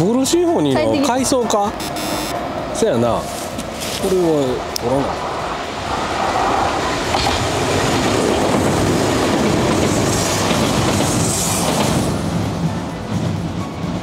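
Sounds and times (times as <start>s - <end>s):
train rumbling over bridge: 0.0s - 14.0s.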